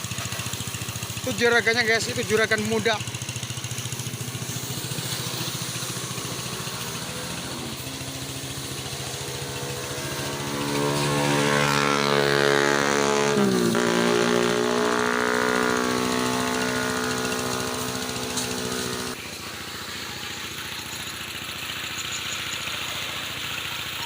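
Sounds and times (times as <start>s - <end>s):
small engines running: 0.0s - 24.0s.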